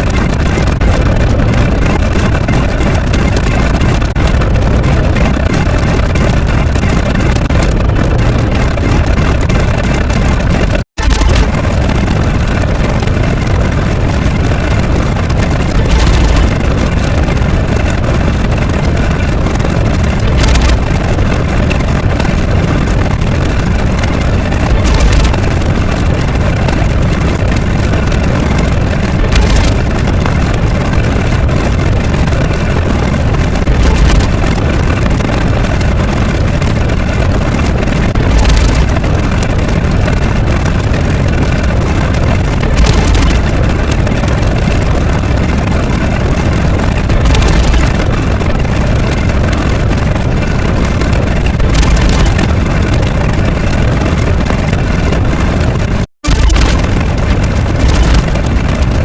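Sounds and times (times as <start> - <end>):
loud engine-like rumble: 0.0 - 59.0.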